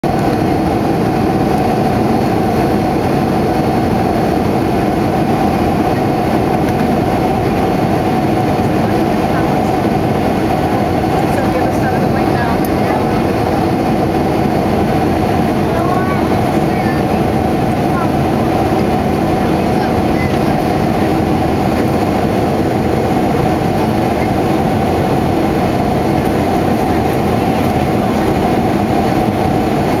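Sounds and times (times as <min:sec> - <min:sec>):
airplane cabin engine rush: 0:00.0 - 0:30.0.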